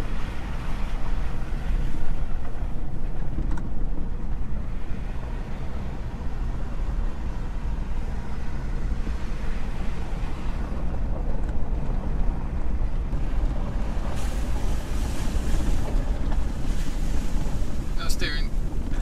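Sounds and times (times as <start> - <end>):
truck engine and tyres rumbling: 0.0 - 19.0.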